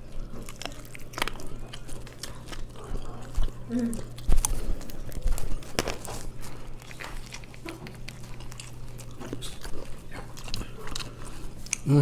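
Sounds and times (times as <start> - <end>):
person chewing and biting: 0.0 - 12.0.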